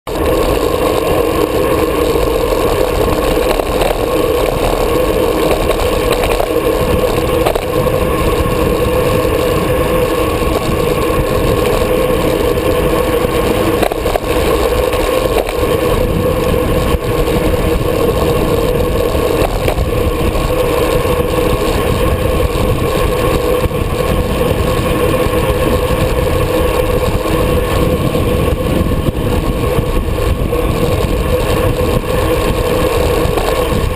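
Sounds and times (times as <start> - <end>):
tyre noise on asphalt: 0.1 - 33.9
wind rushing over microphone: 0.1 - 33.9.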